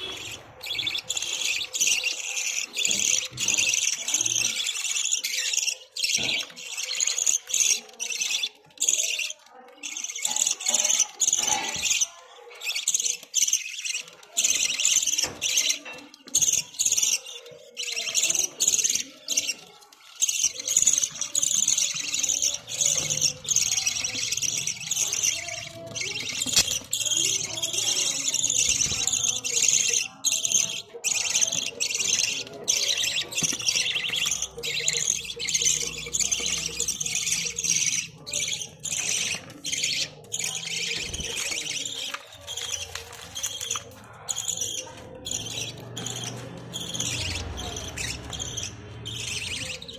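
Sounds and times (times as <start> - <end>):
budgerigars chattering and warbling: 0.0 - 49.9.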